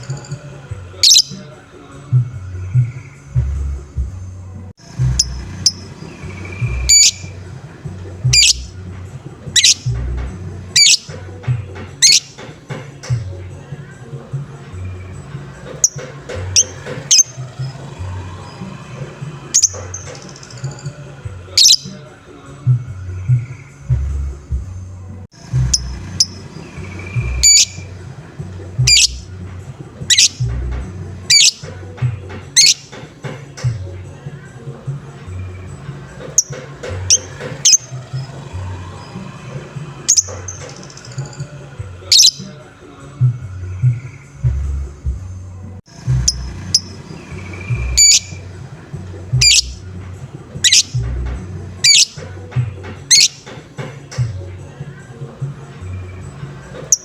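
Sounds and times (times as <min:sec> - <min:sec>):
background music with low beat: 0:00.0 - 0:57.0
lovebird calling: 0:00.0 - 0:57.0.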